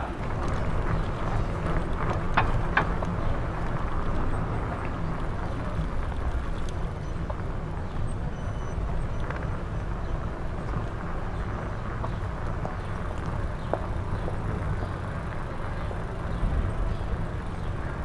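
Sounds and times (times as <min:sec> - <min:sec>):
bicycle rolling rumble: 0:00.0 - 0:18.0.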